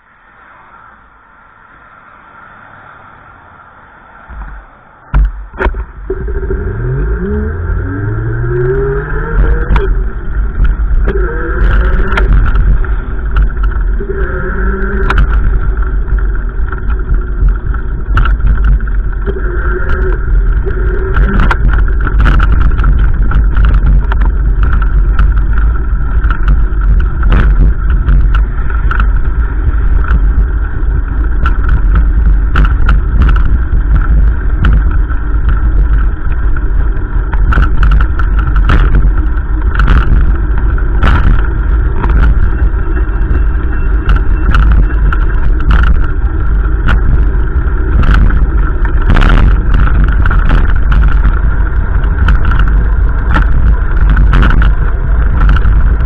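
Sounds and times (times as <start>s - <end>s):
vehicle engine accelerating: 1.7s - 56.0s.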